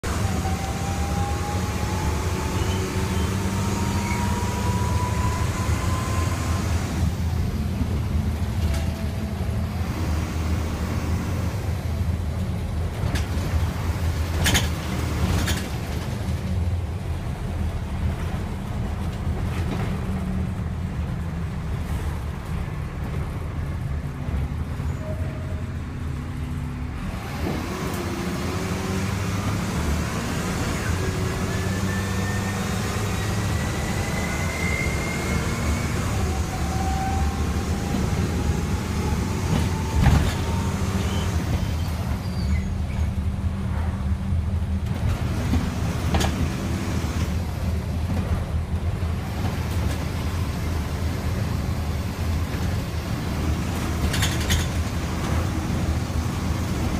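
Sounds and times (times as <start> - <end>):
bus engine and road rumble: 0.0 - 56.9.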